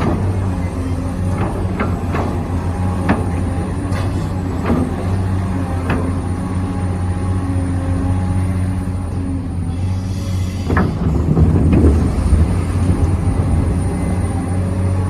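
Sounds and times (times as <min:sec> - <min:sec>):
electric motors and hydraulic pump humming: 0:00.0 - 0:15.0.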